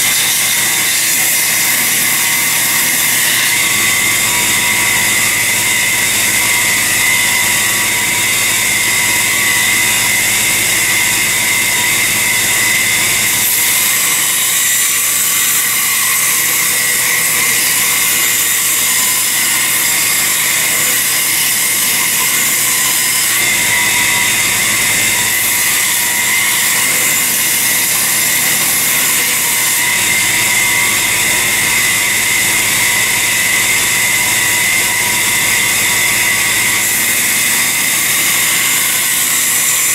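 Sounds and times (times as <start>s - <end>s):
electric grinder whining: 0.0s - 39.9s
steel blade grinding: 0.0s - 39.9s.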